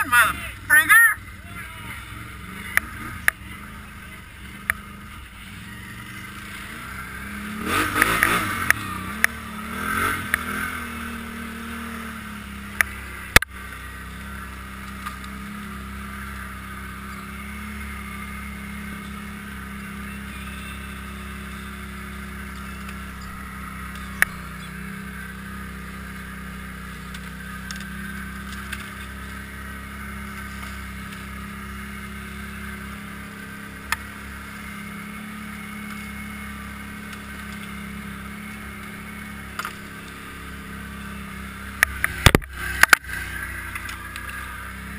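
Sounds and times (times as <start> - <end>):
off-road vehicle engine droning: 0.0 - 44.9.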